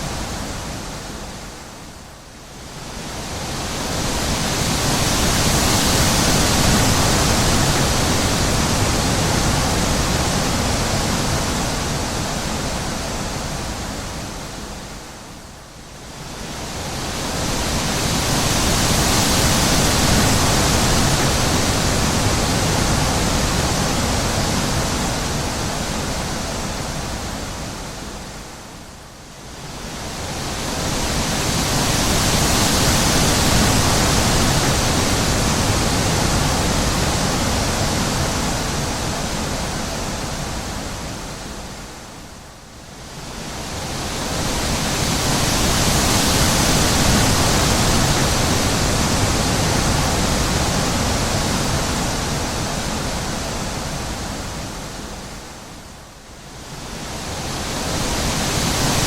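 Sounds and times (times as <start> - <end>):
wind blowing in gusts: 0.0 - 59.0.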